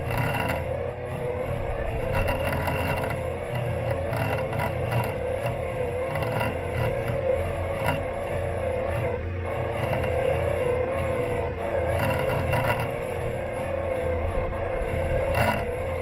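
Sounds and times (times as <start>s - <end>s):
lawn mower motor whirring: 0.0s - 16.0s.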